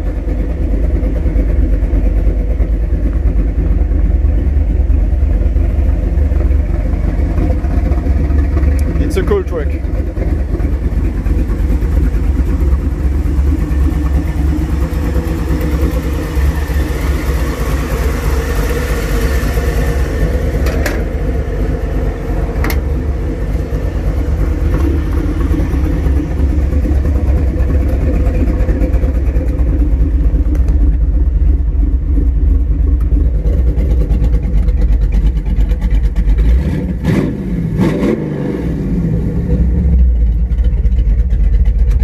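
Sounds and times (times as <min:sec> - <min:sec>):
car engine idling: 0:00.0 - 0:37.8, 0:38.5 - 0:42.0.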